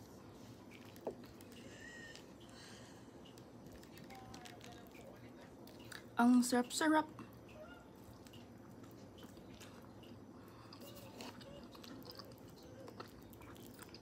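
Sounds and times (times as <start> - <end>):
faint wet chewing: 0.4 - 6.2, 7.2 - 14.0.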